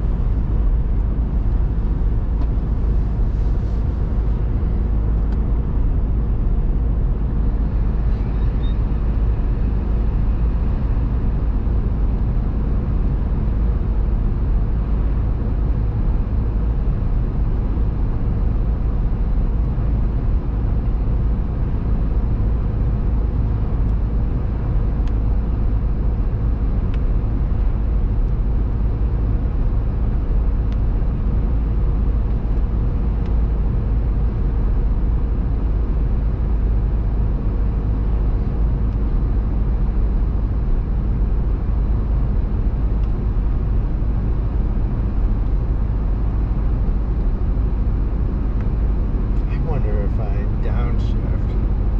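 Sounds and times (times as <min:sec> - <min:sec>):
car interior engine and tyre rumble: 0:00.0 - 0:51.9
faint drivetrain drone: 0:00.0 - 0:51.9.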